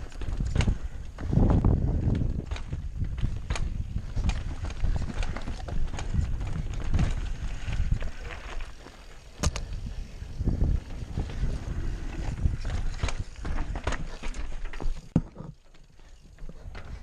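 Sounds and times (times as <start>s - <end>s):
bike clicks and rattles: 0.0s - 17.0s
bike tyres rumbling over rocks: 0.0s - 17.0s.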